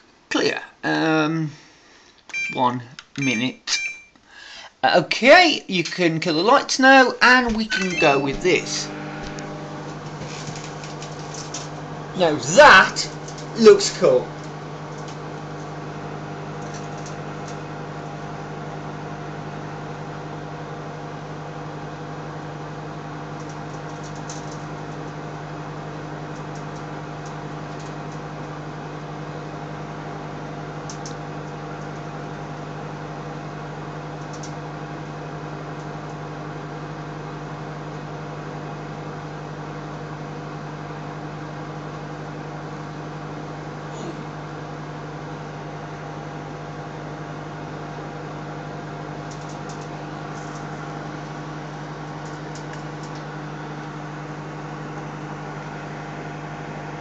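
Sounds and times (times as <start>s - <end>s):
microwave oven humming: 0.0s - 4.6s, 5.2s - 57.0s.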